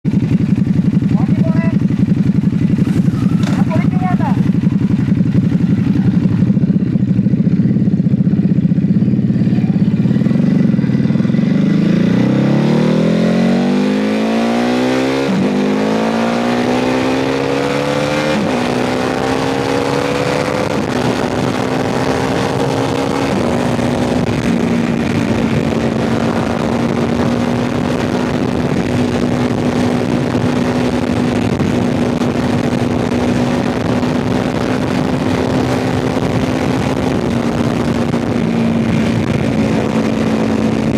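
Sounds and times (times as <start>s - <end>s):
motorcycle accelerating through gears: 0.0s - 40.9s.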